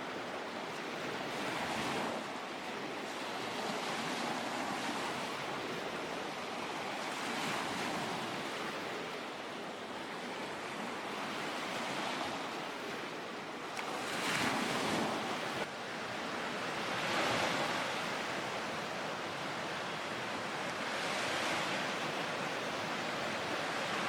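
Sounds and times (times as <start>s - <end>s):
lake waves washing onto shore: 0.0s - 24.0s.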